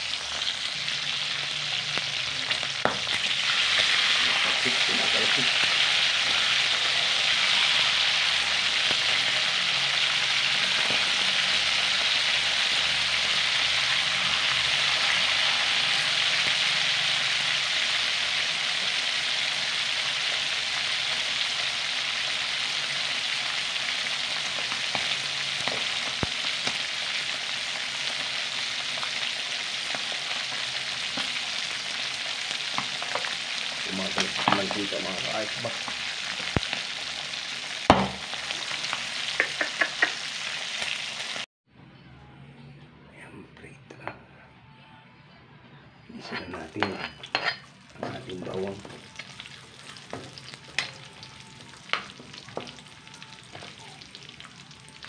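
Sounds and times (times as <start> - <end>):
meat sizzling in hot oil: 0.0 - 41.5, 46.8 - 55.0.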